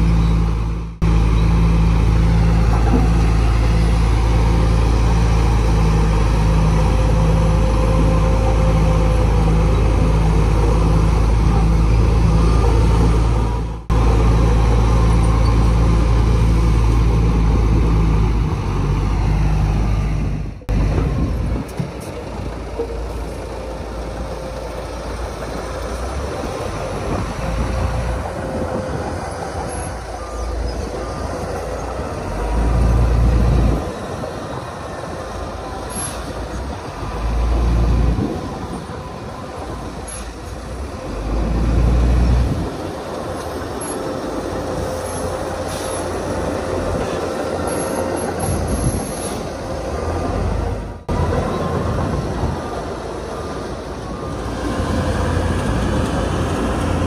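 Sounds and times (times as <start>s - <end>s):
bulldozer diesel engines running: 0.0s - 57.0s.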